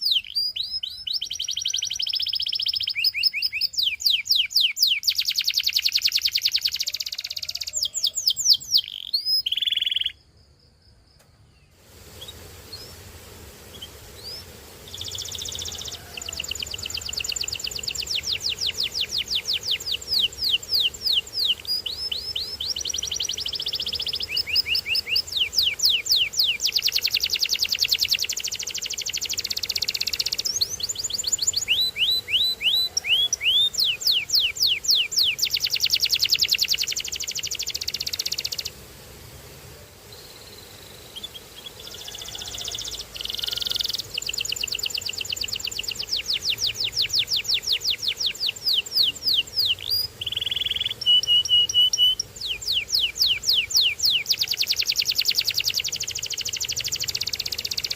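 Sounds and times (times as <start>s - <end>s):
canary singing trills: 0.0s - 10.3s, 13.7s - 38.8s, 40.2s - 57.9s.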